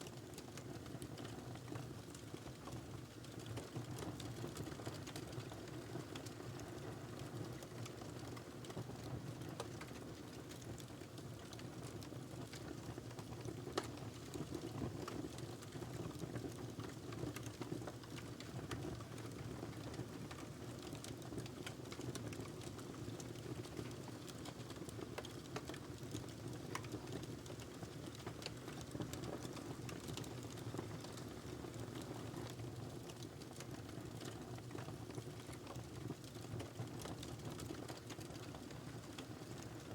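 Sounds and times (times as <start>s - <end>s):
wood fire crackling and popping: 0.2s - 39.9s.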